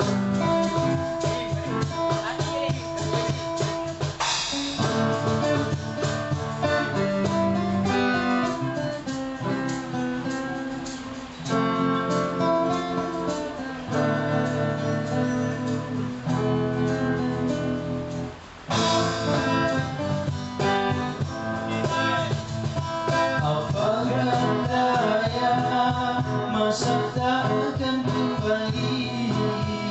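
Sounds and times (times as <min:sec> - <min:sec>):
strummed acoustic guitar: 0:00.0 - 0:29.9.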